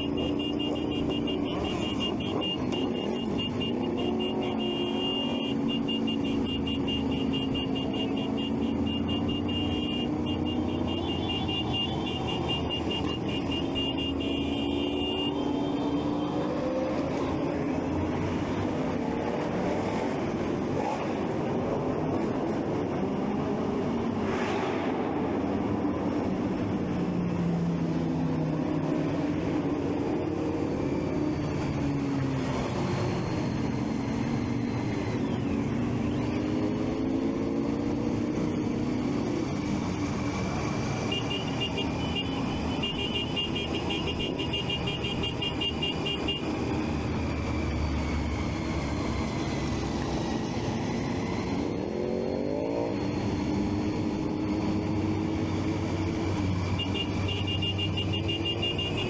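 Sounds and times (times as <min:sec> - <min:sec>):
road and traffic noise: 0:00.0 - 0:59.0.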